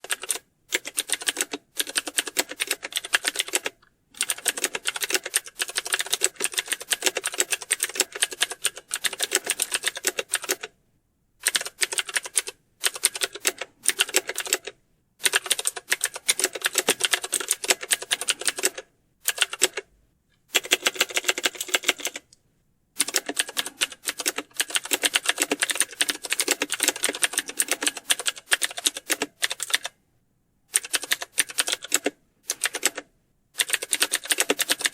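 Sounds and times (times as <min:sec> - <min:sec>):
typing on computer keyboard: 0:00.0 - 0:10.7, 0:11.4 - 0:19.9, 0:20.5 - 0:22.3, 0:23.0 - 0:30.0, 0:30.7 - 0:34.9.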